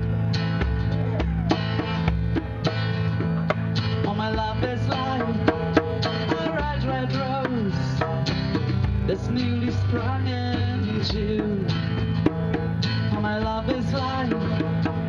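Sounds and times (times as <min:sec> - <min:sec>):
bass line: 0:00.0 - 0:15.0
hand drum: 0:00.0 - 0:15.0
strummed acoustic guitar: 0:00.0 - 0:15.0.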